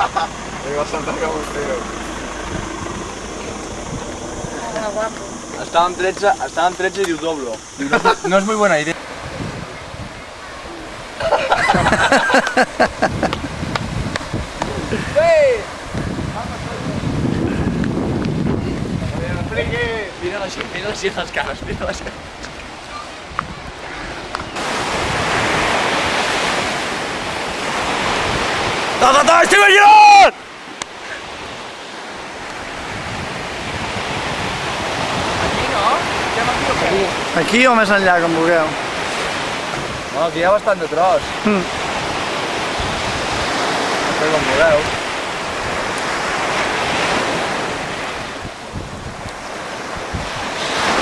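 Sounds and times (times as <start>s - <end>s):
wind buffeting microphone: 0.0s - 29.4s, 30.5s - 51.0s
surf washing onto beach: 0.0s - 51.0s.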